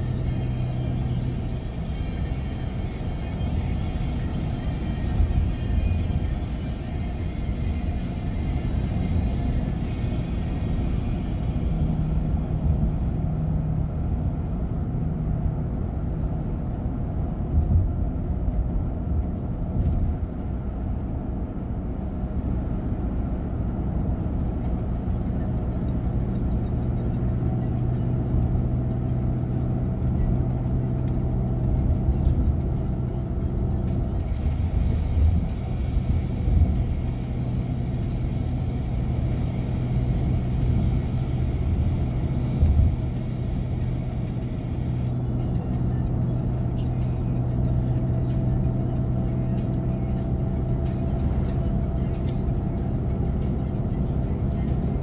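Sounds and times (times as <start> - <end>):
low engine hum: 0.0 - 55.0
road and tyre rumble: 0.0 - 55.0.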